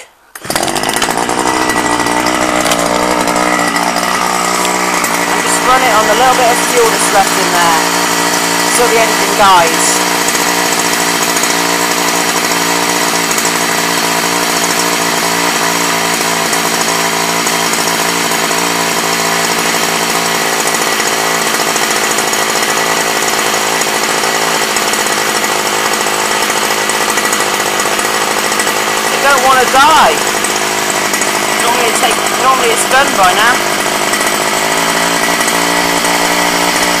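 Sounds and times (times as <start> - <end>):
small two-stroke engine running: 0.0 - 37.0.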